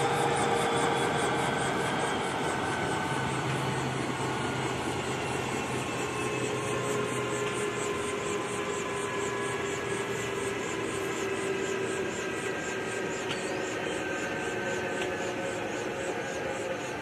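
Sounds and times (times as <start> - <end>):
helicopter engine drone: 0.0 - 17.0.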